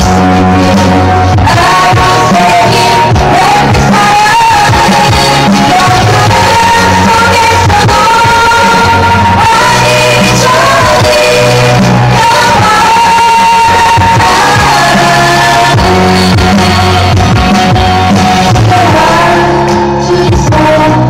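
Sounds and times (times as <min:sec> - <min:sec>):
group singing pop song live: 0:00.0 - 0:21.0
loud backing music: 0:00.0 - 0:21.0.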